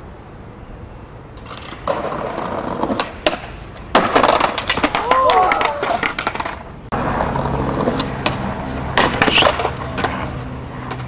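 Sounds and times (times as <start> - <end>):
skateboard clattering on bricks: 1.4 - 6.7, 7.4 - 11.0.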